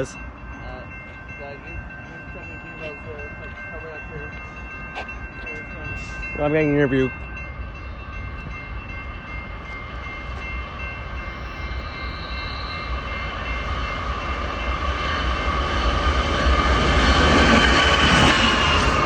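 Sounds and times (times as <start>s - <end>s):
freight train rumble: 0.0s - 19.0s
steady high tones: 0.0s - 19.0s.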